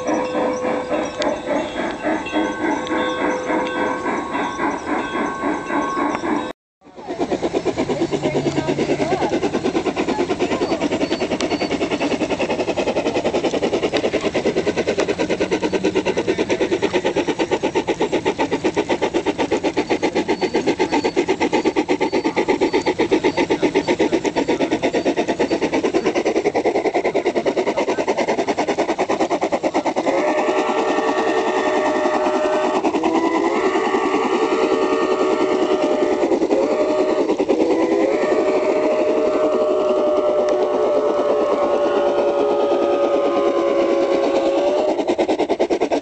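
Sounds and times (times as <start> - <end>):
model steam locomotive chuffing: 0.0 - 46.0.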